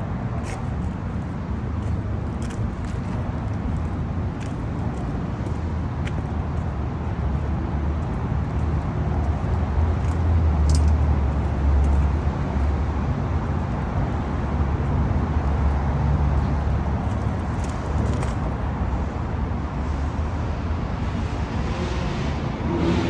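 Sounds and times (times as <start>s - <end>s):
large engine rumbling: 0.0s - 18.8s.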